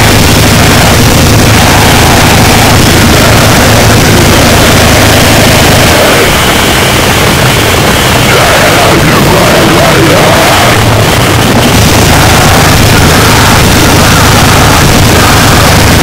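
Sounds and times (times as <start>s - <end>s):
dense distorted static: 0.0s - 16.0s
harsh noise music: 0.0s - 16.0s.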